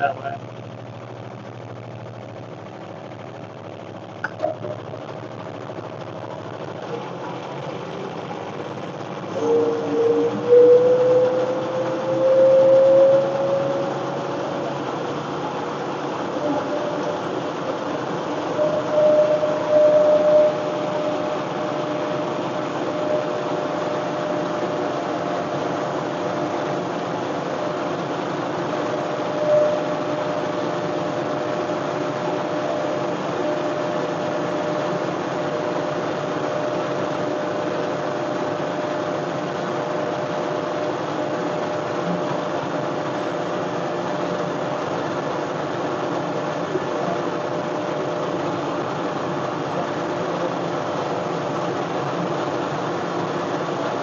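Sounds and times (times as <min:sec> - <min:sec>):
snowblower whine: 0:00.0 - 0:54.0
tractor diesel engine running: 0:00.0 - 0:54.0.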